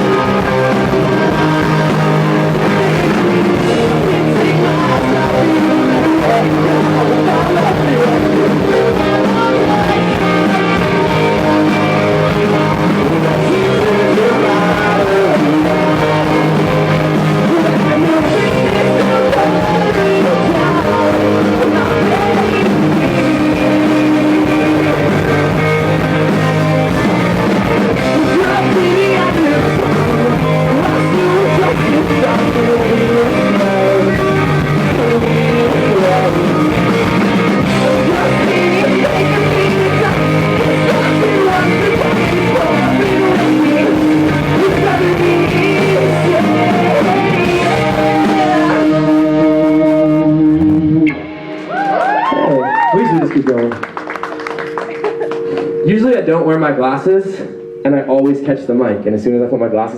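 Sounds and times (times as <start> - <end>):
man singing: 0.0 - 50.9
rock guitar accompaniment: 0.0 - 59.9.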